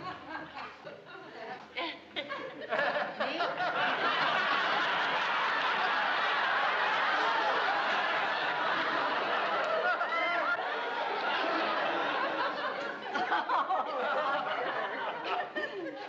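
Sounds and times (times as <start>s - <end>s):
audience laughter: 2.2s - 16.0s.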